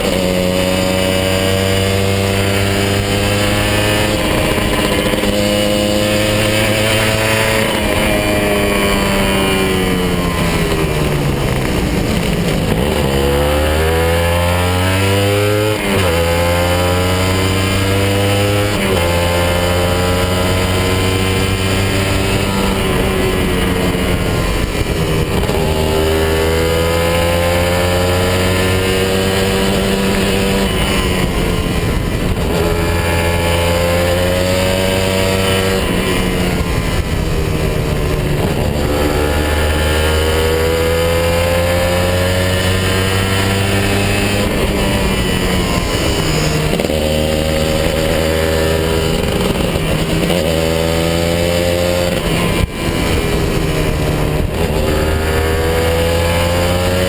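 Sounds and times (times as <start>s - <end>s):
two-stroke motorcycle engine revving: 0.0s - 57.0s.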